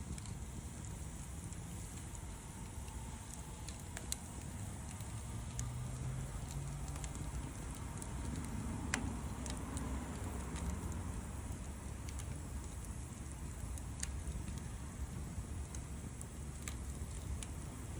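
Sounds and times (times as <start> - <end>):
campfire crackling: 0.0 - 17.9
low steady rumble: 0.0 - 17.9
sharp fire pops: 0.0 - 17.9.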